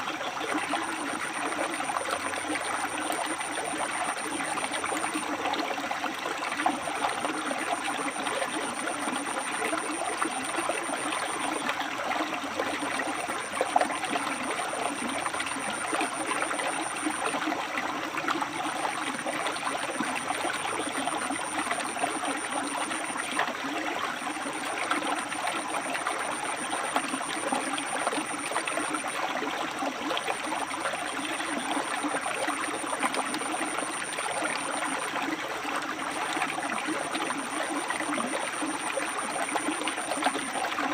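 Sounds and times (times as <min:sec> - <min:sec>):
river water splashing over rocks: 0:00.0 - 0:40.9.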